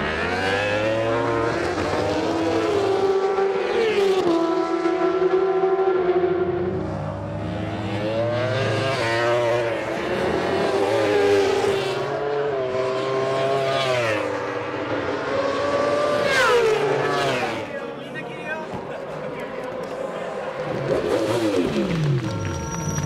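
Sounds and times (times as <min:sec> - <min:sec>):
superbike engines racing past: 0:00.0 - 0:23.0.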